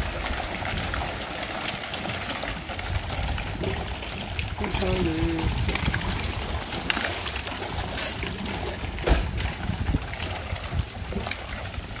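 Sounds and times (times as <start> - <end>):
fish splashing at water surface: 0.0 - 12.0.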